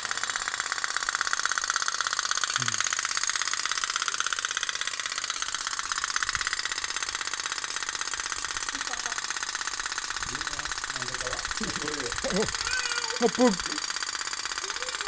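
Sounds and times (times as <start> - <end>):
toy boat popping rattle: 0.0 - 15.0.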